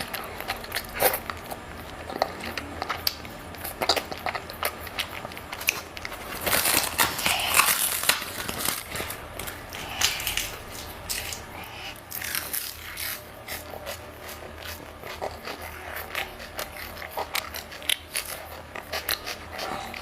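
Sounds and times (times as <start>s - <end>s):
chewing with mouth clicks and smacks: 0.0s - 20.0s
faint low hum: 0.0s - 20.0s.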